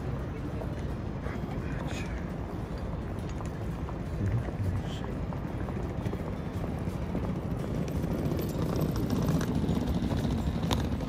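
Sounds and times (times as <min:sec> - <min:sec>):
faint footsteps on pavement: 0:00.0 - 0:11.0.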